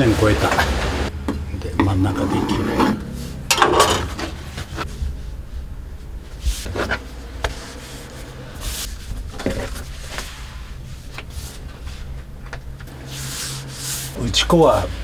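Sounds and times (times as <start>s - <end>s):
steady low hum: 0.8s - 15.0s.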